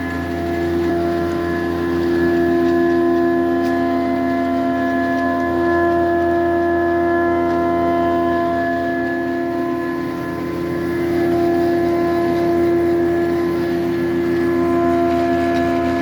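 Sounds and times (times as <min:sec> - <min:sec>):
planer motor humming: 0:00.0 - 0:16.0.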